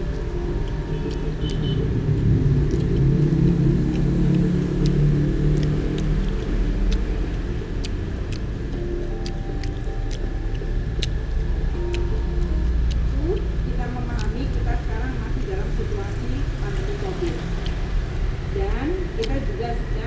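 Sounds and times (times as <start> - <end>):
engine and traffic rumble: 0.0 - 20.0.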